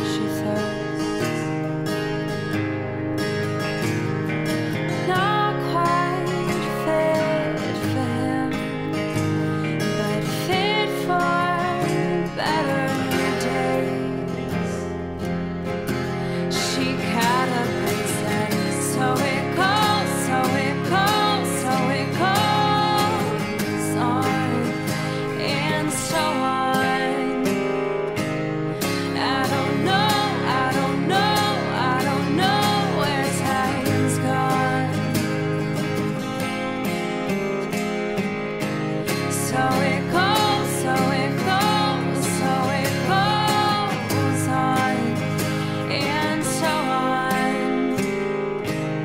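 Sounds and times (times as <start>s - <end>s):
person singing: 0.0s - 1.8s, 4.7s - 15.0s, 15.9s - 36.3s, 38.9s - 48.8s
strummed acoustic guitar: 0.0s - 49.0s.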